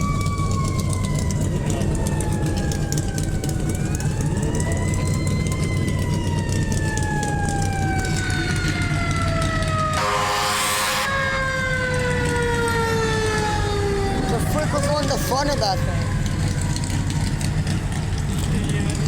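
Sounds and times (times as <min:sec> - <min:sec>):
siren wailing: 0:00.0 - 0:18.4
low engine rumble: 0:00.0 - 0:19.0.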